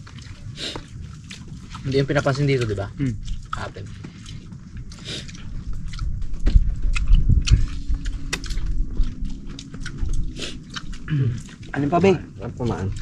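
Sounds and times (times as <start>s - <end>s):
chewing and lip-smacking: 0.0s - 13.0s
low steady rumble: 0.0s - 13.0s.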